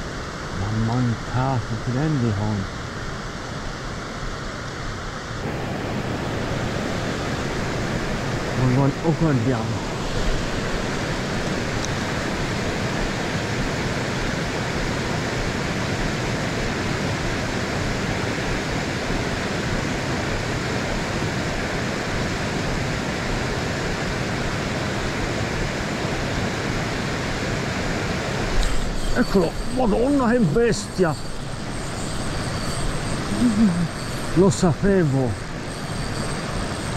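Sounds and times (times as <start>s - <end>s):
water rushing over weir: 0.0s - 36.9s.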